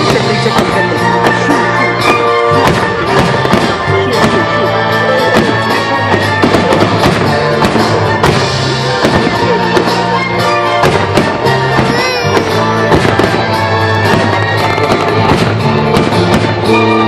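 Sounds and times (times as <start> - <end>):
fireworks bangs and crackles: 0.0 - 17.0
loud music: 0.0 - 17.0.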